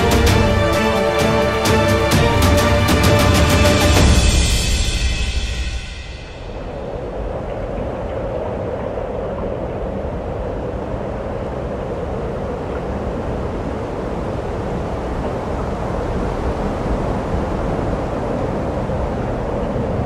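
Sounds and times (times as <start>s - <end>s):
wind rush: 0.0s - 20.0s.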